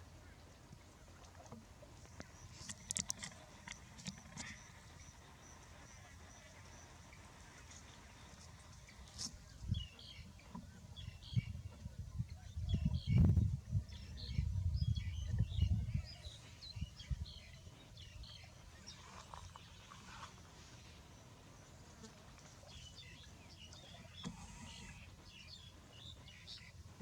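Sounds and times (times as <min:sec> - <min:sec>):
small birds chirping: 0:02.2 - 0:27.0.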